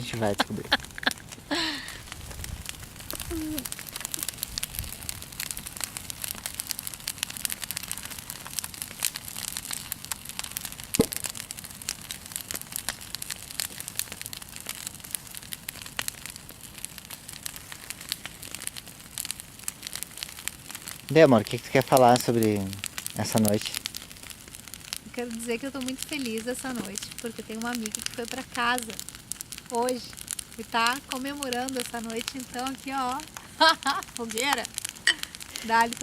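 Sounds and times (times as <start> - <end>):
bonfire crackling: 0.0 - 36.0.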